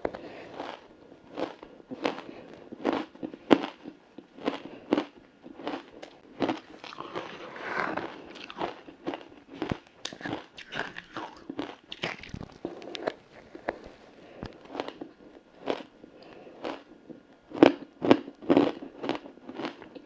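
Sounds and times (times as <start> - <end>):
ice crunching in chewing: 0.2 - 16.9, 17.5 - 20.0.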